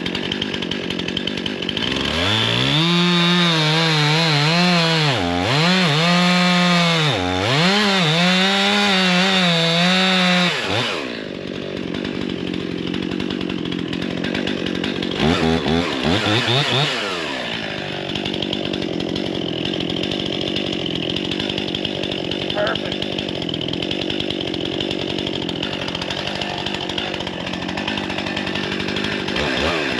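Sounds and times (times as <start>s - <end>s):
chainsaw cutting wood: 0.0s - 29.9s.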